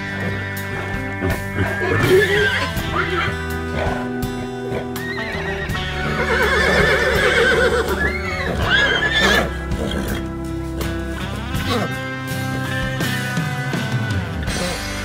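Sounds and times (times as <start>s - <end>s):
horses neighing: 0.0s - 13.2s
background music: 0.0s - 15.0s.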